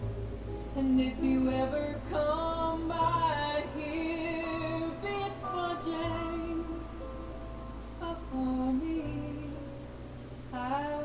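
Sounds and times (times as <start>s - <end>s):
soft steady accompaniment: 0.0s - 11.0s
woman singing a slow ballad: 0.7s - 7.3s, 8.0s - 9.8s, 10.5s - 11.0s.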